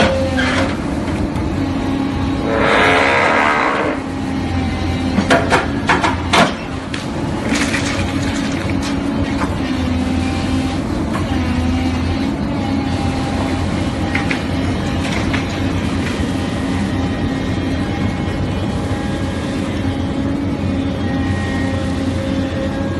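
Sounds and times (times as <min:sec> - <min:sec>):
excavator engine and hydraulics: 0:00.0 - 0:22.9.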